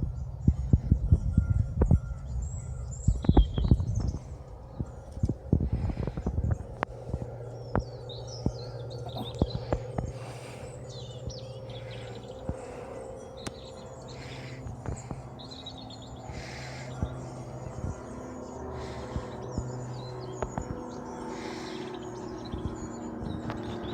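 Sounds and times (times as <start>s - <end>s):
small birds chirping: 0.0s - 23.9s
steady low hum: 0.0s - 23.9s.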